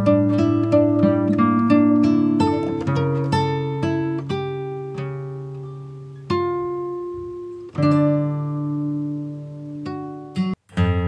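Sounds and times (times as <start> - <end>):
plucked acoustic guitar music: 0.0 - 11.0.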